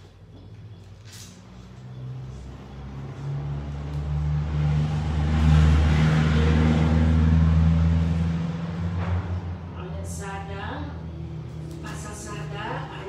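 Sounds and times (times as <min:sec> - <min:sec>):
vehicle engine passing by: 0:00.7 - 0:13.0.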